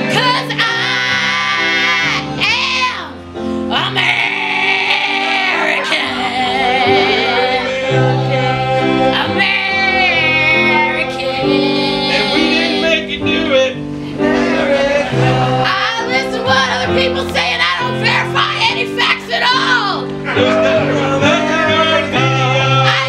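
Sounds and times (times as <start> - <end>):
woman singing with vibrato: 0.0 - 13.1, 14.2 - 20.0, 21.3 - 23.0
instrumental accompaniment chords: 0.0 - 23.0
men singing: 3.7 - 23.0.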